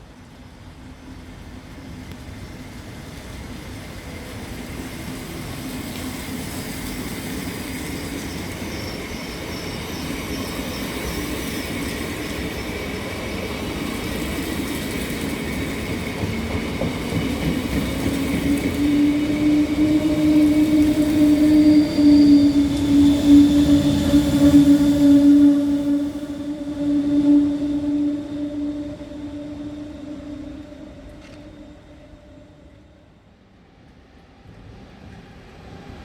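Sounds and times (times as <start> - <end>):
train rail and wheel rumble: 0.0 - 36.0
locomotive humming tones: 0.4 - 33.6.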